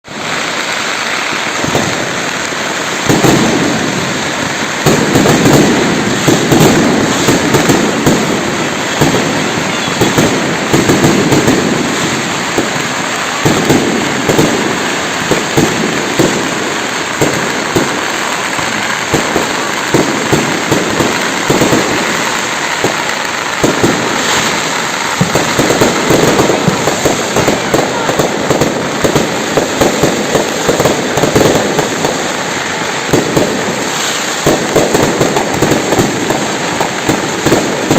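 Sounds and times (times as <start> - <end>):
fireworks crackling and banging: 0.0 - 37.9
heavy firework booms: 0.0 - 37.9
steady noisy hiss: 0.1 - 37.9.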